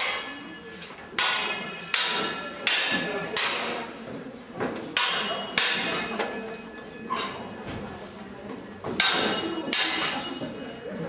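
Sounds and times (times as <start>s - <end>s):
wooden staffs clacking: 0.0s - 7.5s, 8.9s - 10.5s.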